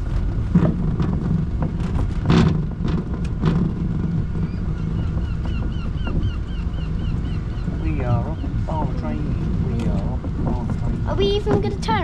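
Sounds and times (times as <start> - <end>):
road train rumbling: 0.0 - 12.0.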